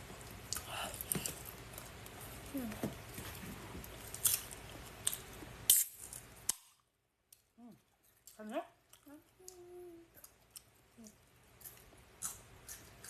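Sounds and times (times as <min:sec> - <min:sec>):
person chewing food: 0:00.2 - 0:05.6, 0:07.3 - 0:13.0.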